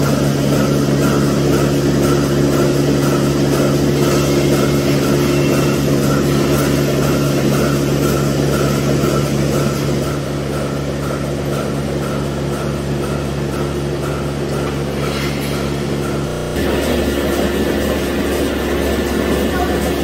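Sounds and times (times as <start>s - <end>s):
milking machine vacuum hum: 0.0s - 20.0s
pulsator pulsing beat: 0.0s - 20.0s.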